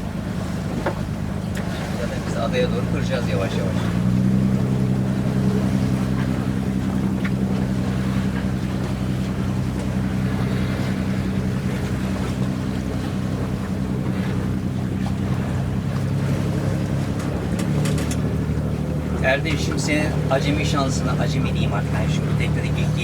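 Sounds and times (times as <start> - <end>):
boat engine running: 0.0 - 23.0
wind and water noise: 0.0 - 23.0.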